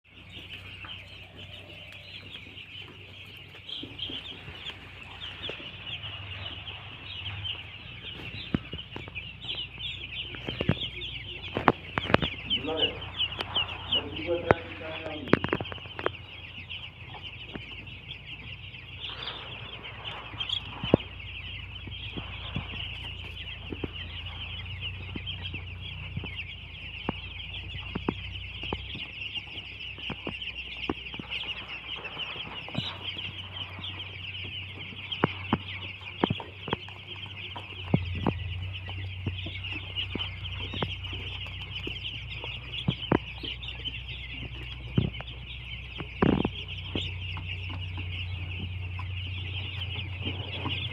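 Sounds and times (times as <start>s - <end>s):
chicks peeping: 0.0s - 50.9s
low steady hum: 0.1s - 50.9s.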